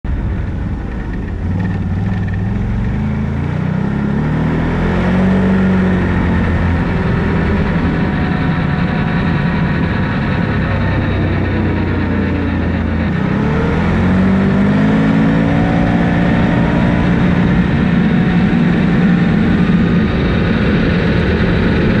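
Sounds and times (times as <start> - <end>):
atv engine accelerating: 0.1 - 22.0.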